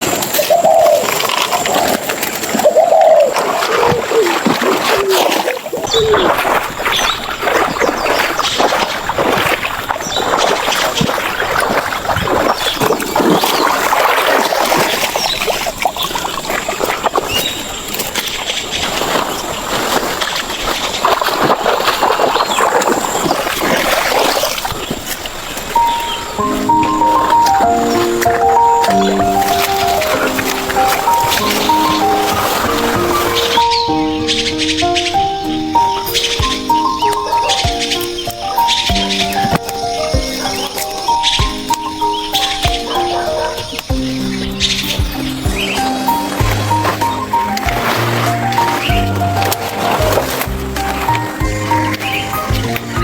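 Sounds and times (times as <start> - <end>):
water splashing and sloshing: 0.0 - 53.0.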